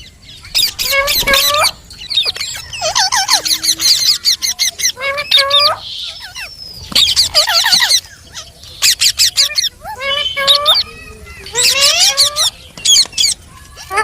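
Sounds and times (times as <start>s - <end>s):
parrot squawking and chirping: 0.0s - 14.0s.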